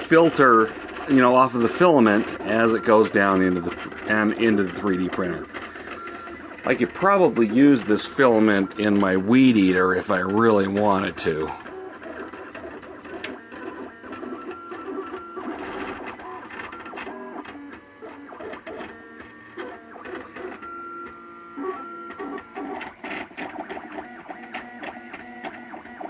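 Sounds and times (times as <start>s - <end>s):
stepper motors whining: 0.0s - 26.0s.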